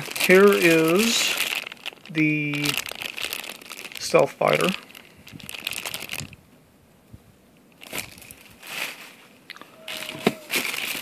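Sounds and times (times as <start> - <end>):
plastic bags crinkling: 0.0 - 6.4, 7.8 - 11.0.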